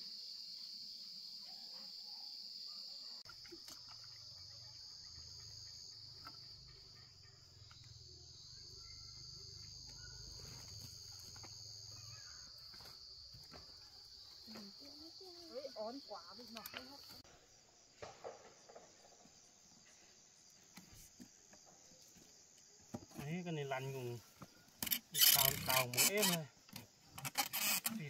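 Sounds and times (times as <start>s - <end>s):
insect chorus chirring: 0.0s - 28.0s.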